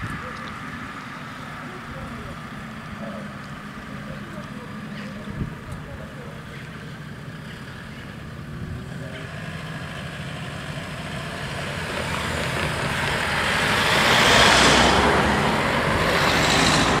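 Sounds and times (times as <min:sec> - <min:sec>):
cars passing close by: 0:00.0 - 0:17.0.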